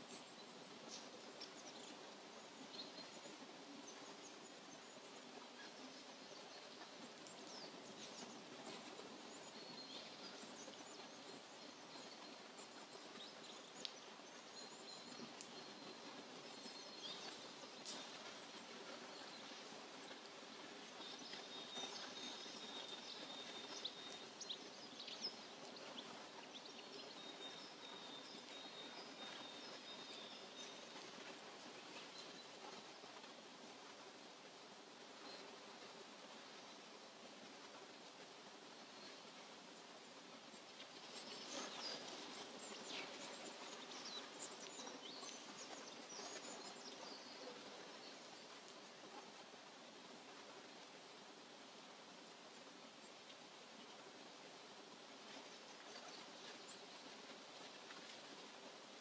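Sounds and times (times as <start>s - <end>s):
soft background hiss: 0.0s - 59.0s.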